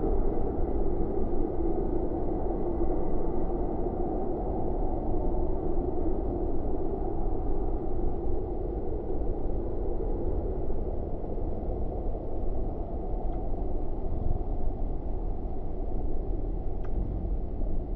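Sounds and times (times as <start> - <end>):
muffled traffic rumble: 0.0 - 17.9.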